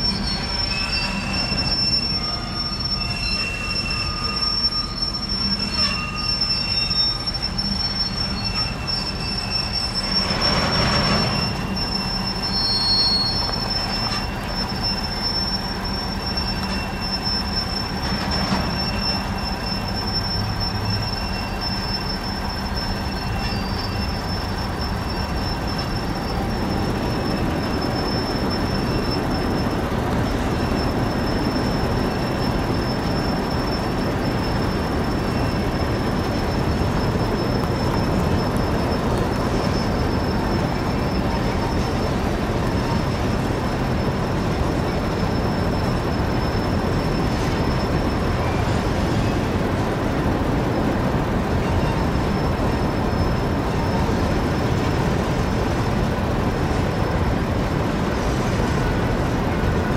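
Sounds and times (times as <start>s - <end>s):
rumble of rolling freight cars: 0.0s - 59.9s
steel wheels squealing on rails: 0.0s - 59.9s.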